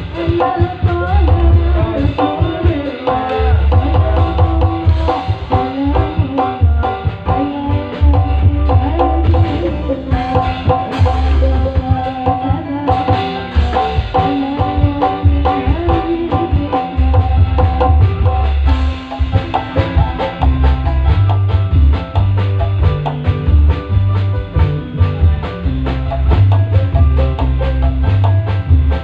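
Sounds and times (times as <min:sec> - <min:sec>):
deep bass beat: 0:00.0 - 0:29.0
hand drums in quick rhythm: 0:00.0 - 0:29.0.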